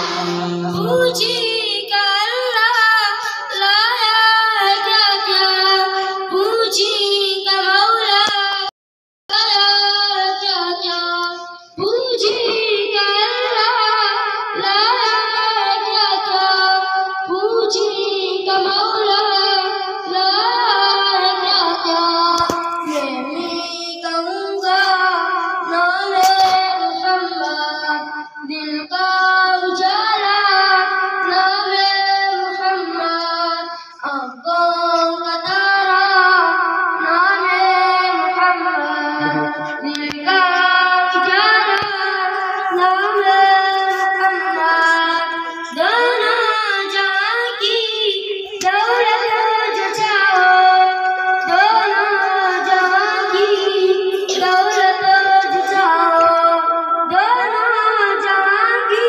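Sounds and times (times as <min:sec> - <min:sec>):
boy singing through loudspeaker: 0:00.0 - 0:08.7, 0:09.3 - 0:59.0.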